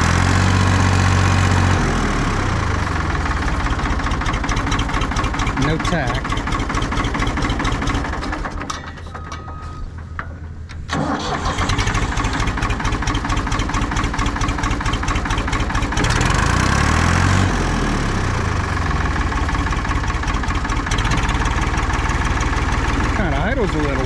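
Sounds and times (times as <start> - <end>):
combine engine running: 0.0 - 24.0.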